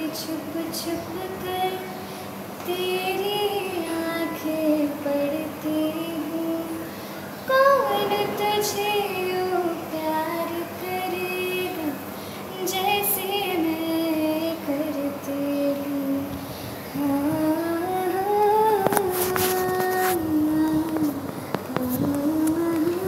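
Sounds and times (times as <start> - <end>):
woman singing unaccompanied: 0.0 - 23.0.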